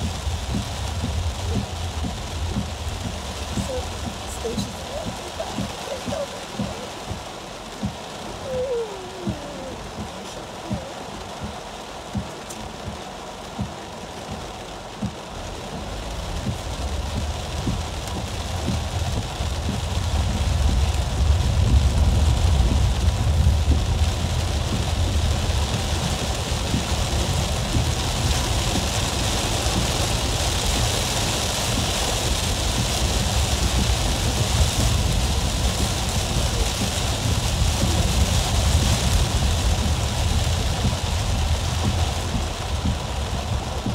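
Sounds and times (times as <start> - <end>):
engine and road rumble: 0.0 - 43.9
rain on car: 0.0 - 43.9
tyres on wet road: 0.0 - 43.9.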